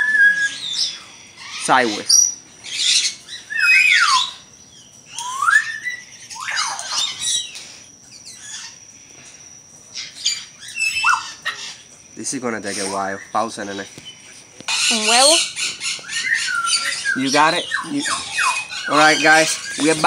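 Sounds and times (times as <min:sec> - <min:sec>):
cockatiels chirping and squawking: 0:00.0 - 0:04.5, 0:05.1 - 0:08.8, 0:09.9 - 0:11.9, 0:12.6 - 0:14.1, 0:14.7 - 0:20.0.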